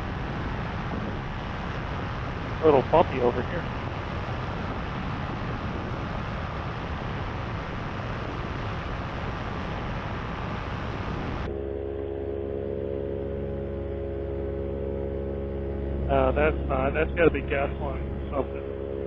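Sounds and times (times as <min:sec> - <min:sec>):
paramotor engine and propeller: 0:00.0 - 0:19.0.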